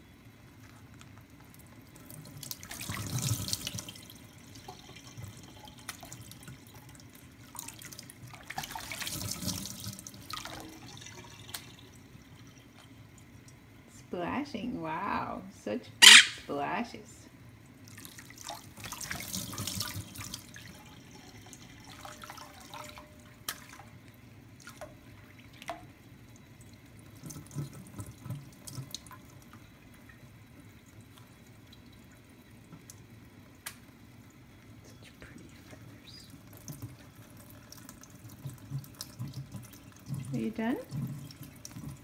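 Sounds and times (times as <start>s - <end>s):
sharp water drips: 0.9s - 13.7s, 17.6s - 42.0s.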